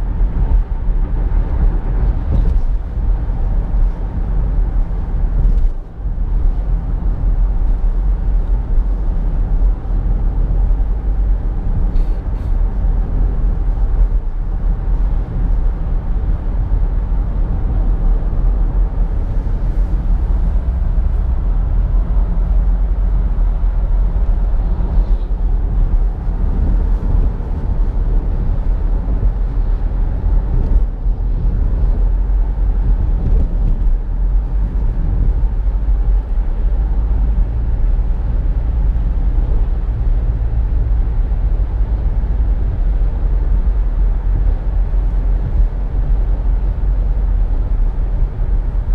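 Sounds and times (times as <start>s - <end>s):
road and engine rumble: 0.0s - 48.9s.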